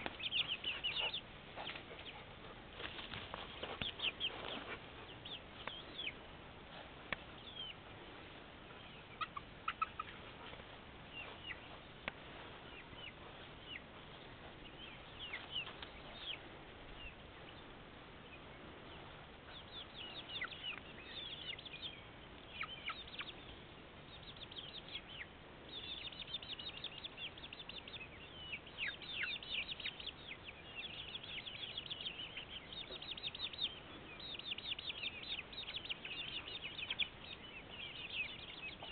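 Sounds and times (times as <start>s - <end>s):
chicks peeping and chirping: 0.0s - 38.9s.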